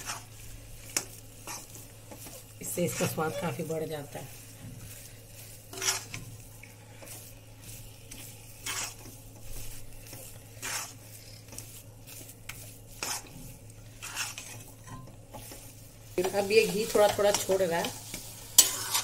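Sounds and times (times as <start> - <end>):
faint sizzling: 0.0 - 19.0
spatula scraping a pan: 0.0 - 19.0.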